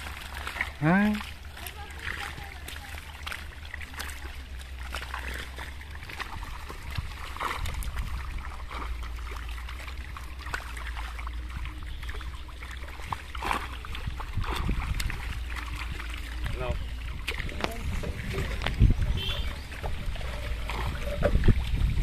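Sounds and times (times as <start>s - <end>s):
fish splashing in water: 0.0s - 22.0s.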